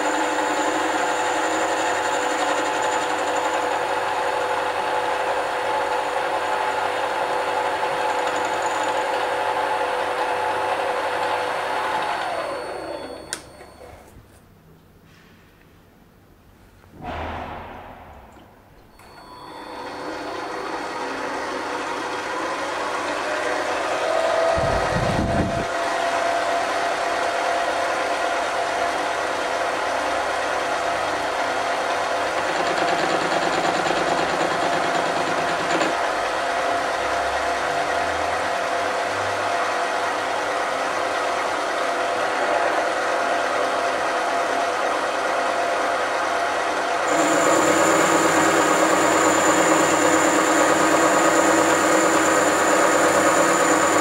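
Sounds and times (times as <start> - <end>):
lathe motor and gears whining: 0.0 - 13.8, 19.0 - 43.0, 43.6 - 54.0.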